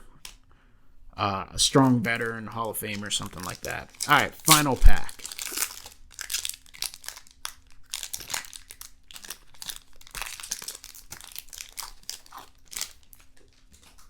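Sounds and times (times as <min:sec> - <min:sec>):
foil wrapper crinkling and tearing: 0:01.7 - 0:14.0.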